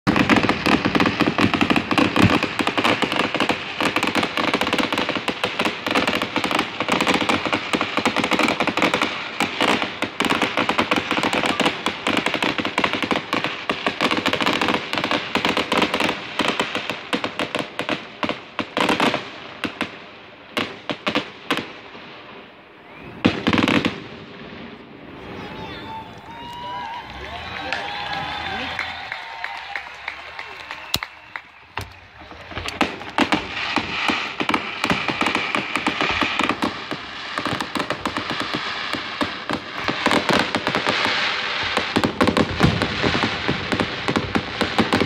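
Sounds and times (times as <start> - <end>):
loud firework burst: 0.1 - 19.7, 22.7 - 45.0
fireworks crackling and popping: 0.1 - 45.0.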